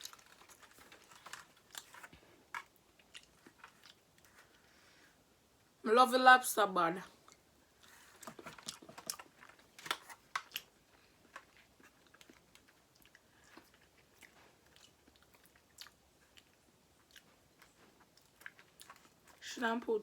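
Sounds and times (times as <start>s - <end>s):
person chewing food: 0.0s - 4.9s, 7.2s - 19.4s.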